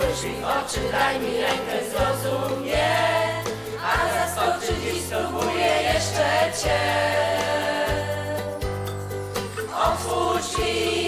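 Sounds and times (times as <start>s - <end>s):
voices singing together: 0.0s - 8.8s, 9.4s - 11.0s
keyboard: 0.0s - 11.0s
percussion beat: 0.0s - 11.0s.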